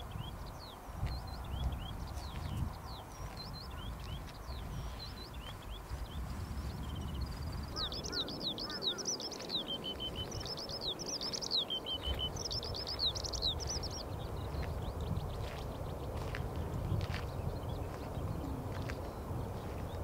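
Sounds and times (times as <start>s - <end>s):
skylark singing: 0.0s - 20.0s.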